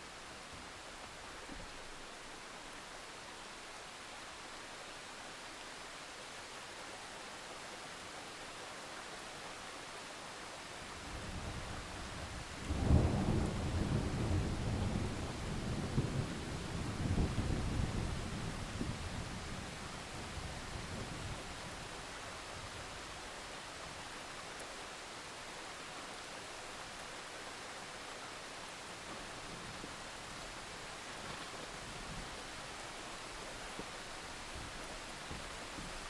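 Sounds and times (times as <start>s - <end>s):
steady rain hiss: 0.0s - 36.0s.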